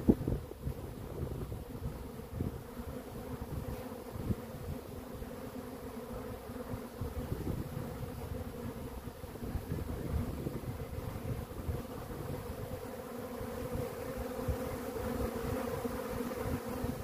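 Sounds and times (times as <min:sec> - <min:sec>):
wind rumbling on microphone: 0:00.0 - 0:05.0, 0:06.6 - 0:17.0
bee swarm buzzing: 0:00.0 - 0:17.0.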